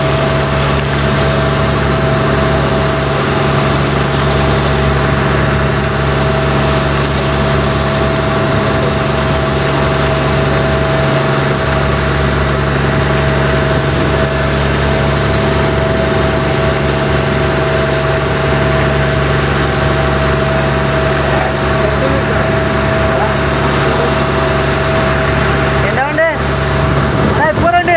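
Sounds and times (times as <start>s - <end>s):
boat engine droning: 0.0s - 27.9s.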